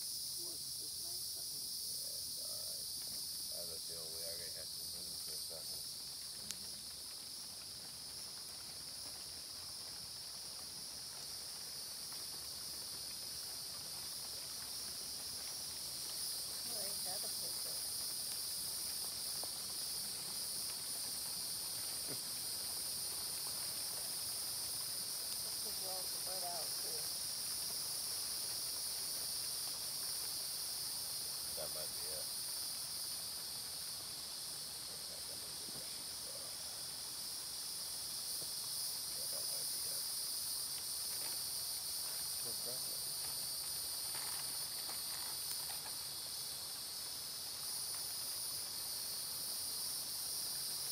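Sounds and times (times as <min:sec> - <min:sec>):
night insects trilling: 0:00.0 - 0:50.9.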